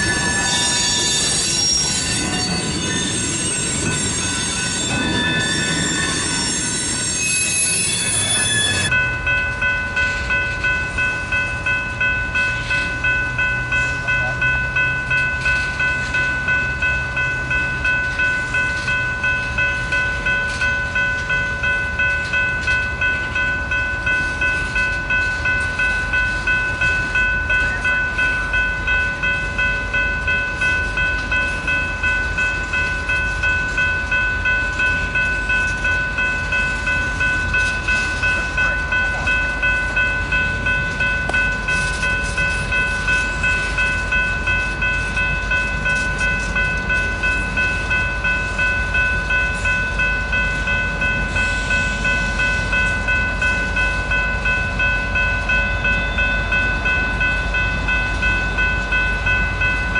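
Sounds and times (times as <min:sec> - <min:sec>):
crossing bell ringing: 0:00.0 - 0:59.9
train rumbling and wheel clatter: 0:00.0 - 0:59.9.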